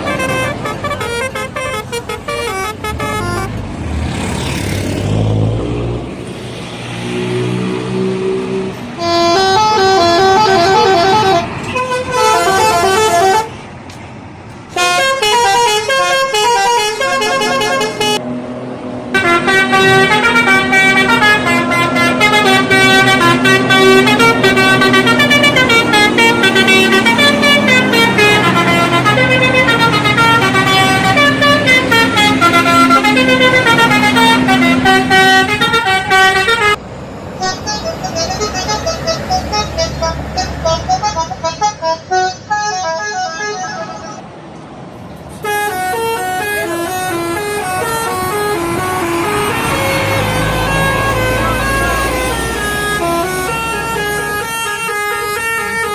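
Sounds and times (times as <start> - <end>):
bus air horn playing a tune: 0.0 - 3.6, 8.9 - 13.6, 14.7 - 18.2, 19.1 - 36.8, 37.4 - 44.3, 45.3 - 55.9.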